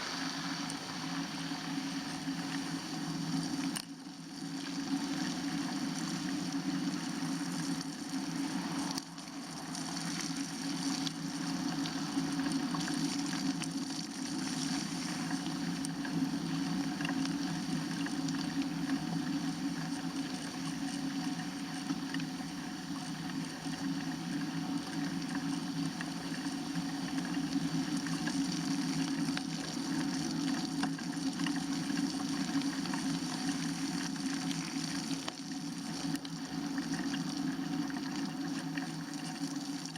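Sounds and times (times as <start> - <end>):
bicycle tyres on wet slush: 0.0 - 22.3, 24.0 - 39.9.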